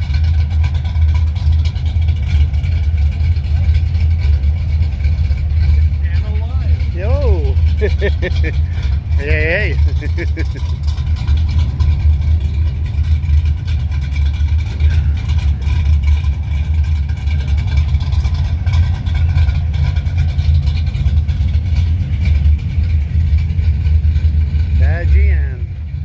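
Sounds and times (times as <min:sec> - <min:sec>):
car engines running: 0:00.0 - 0:26.0.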